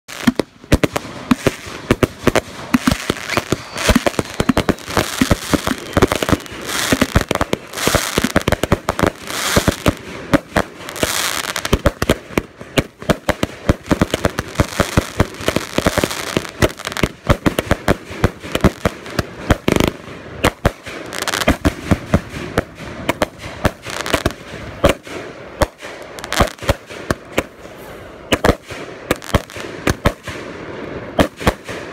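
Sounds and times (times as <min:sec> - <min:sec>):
firework aerial bursts: 0:00.1 - 0:31.9
firework crackle: 0:00.1 - 0:31.9.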